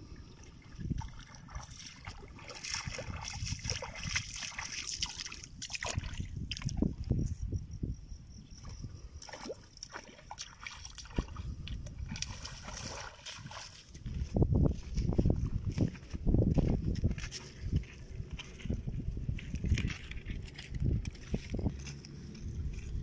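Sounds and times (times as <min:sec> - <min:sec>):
footsteps wading through muddy water: 0:00.0 - 0:07.3, 0:08.6 - 0:23.0.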